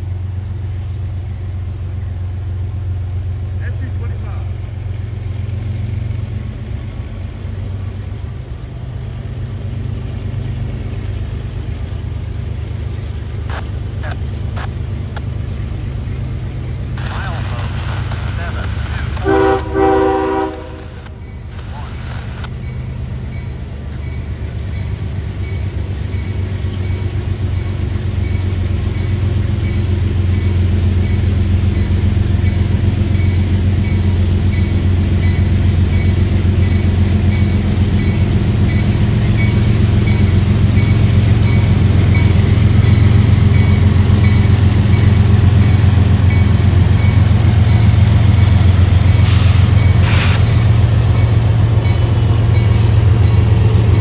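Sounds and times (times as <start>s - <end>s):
diesel locomotive engines rumbling: 0.0s - 54.0s.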